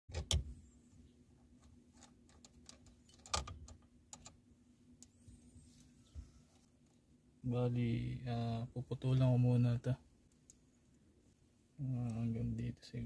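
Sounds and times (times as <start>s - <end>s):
faint steady hum: 0.1s - 13.0s.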